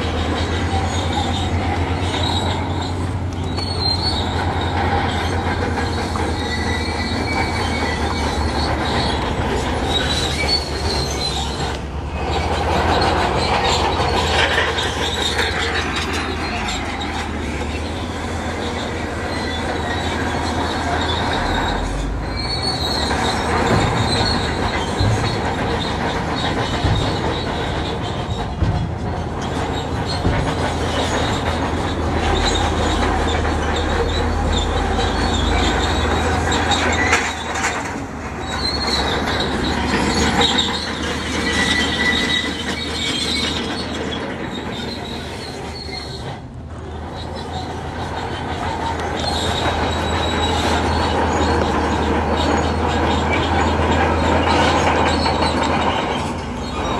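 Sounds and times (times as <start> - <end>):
diesel engine running: 0.0 - 56.9
steel tracks squealing and clanking: 0.0 - 56.9.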